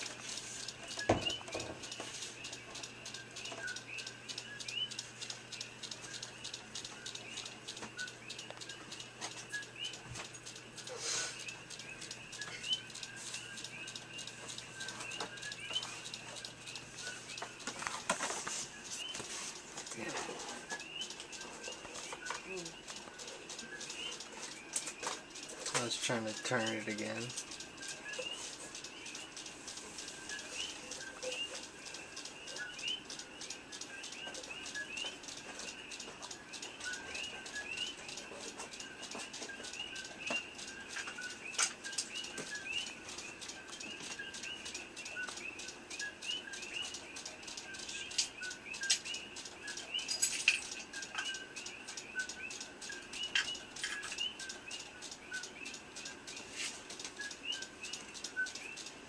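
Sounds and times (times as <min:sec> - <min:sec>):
faint fast ticking: 0:00.0 - 0:59.0
sharp clicks: 0:00.0 - 0:59.0
small bird chirping: 0:00.0 - 0:59.0.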